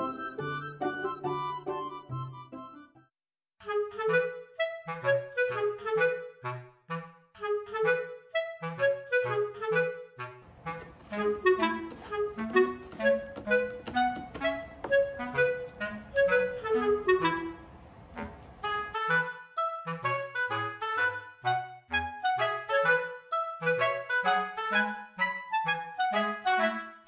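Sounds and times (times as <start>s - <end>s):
bouncy woodwind melody: 0.0s - 27.0s.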